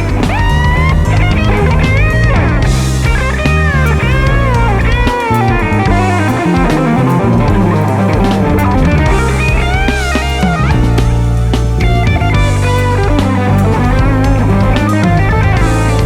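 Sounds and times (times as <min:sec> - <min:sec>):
bass guitar: 0:00.0 - 0:16.0
drum kit: 0:00.0 - 0:16.0
electric guitar lead: 0:00.0 - 0:16.0.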